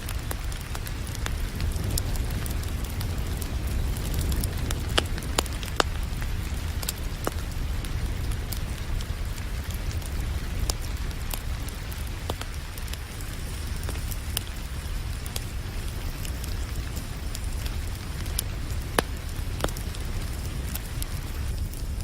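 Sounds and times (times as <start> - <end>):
constant low rumble: 0.0 - 22.0
rain hissing: 0.0 - 22.0
wood fire crackling and popping: 0.0 - 22.0.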